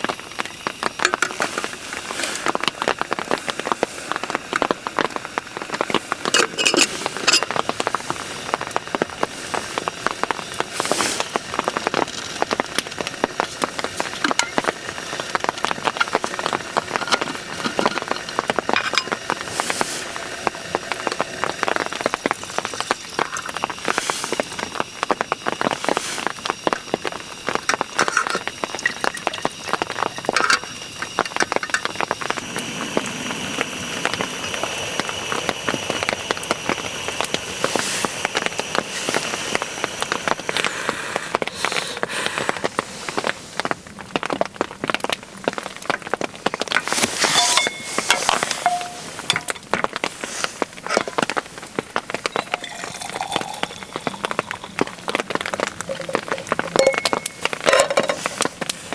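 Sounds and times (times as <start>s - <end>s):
rain drops falling: 0.0s - 58.9s.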